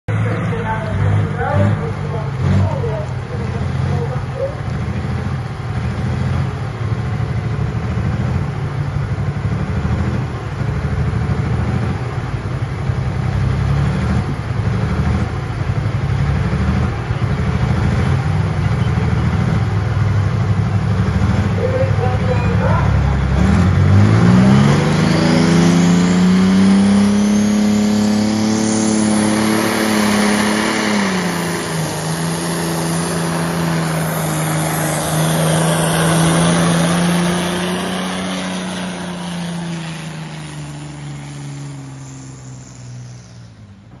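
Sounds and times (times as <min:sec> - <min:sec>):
diesel engine revving hard: 0:00.1 - 0:43.7.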